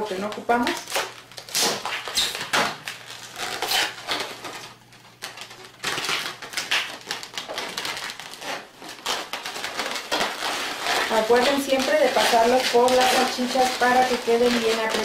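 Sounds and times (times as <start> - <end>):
latex balloons squeaking: 0.0 - 15.0.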